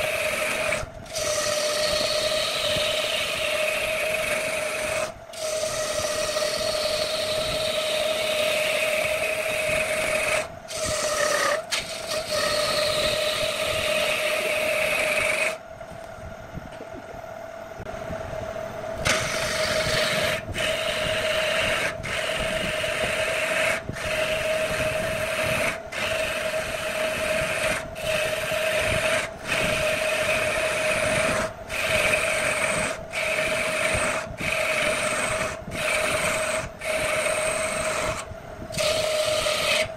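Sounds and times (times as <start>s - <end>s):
chisel scraping spinning wood: 0.0s - 15.6s, 19.0s - 39.9s
wood lathe humming: 0.0s - 15.7s, 19.0s - 39.9s.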